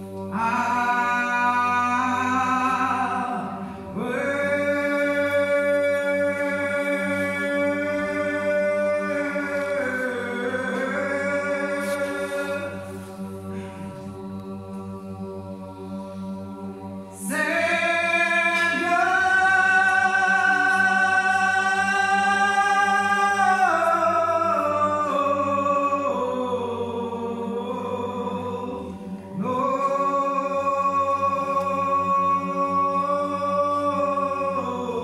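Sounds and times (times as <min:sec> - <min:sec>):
sung chant melody: 0:00.0 - 0:35.0.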